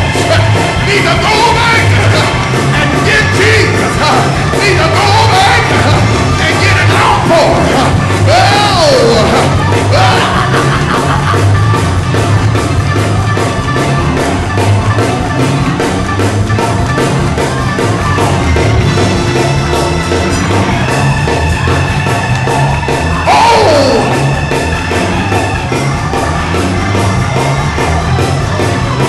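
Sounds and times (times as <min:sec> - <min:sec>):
band playing upbeat music: 0:00.0 - 0:29.0
driving drum beat: 0:00.0 - 0:29.0
pulsing bass line: 0:00.0 - 0:29.0.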